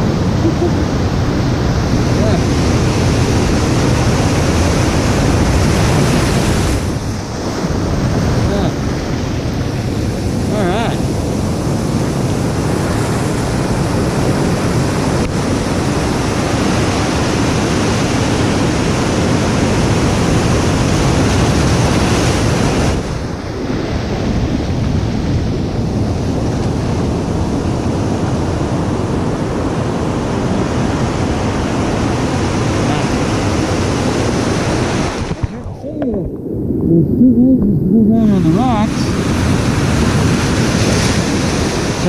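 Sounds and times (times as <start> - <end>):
ocean surf crashing: 0.0 - 42.0
wind buffeting microphone: 0.0 - 42.0.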